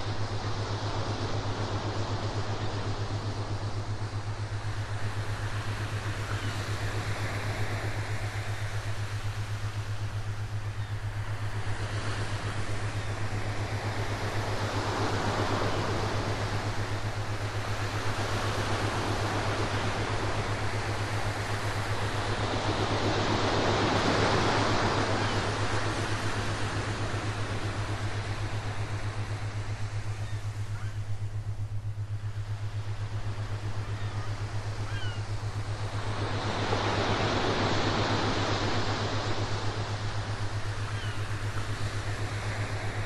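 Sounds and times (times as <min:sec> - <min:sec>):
steady low hum: 0:00.0 - 0:43.0
ocean waves: 0:04.4 - 0:43.0.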